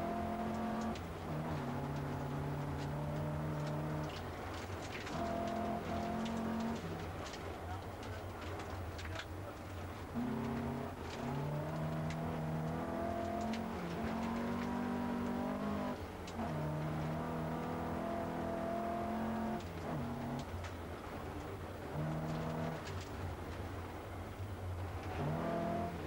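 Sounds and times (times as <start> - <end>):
car engine revving under full throttle: 0.0 - 7.4, 10.0 - 20.6, 21.6 - 23.2, 24.4 - 26.0.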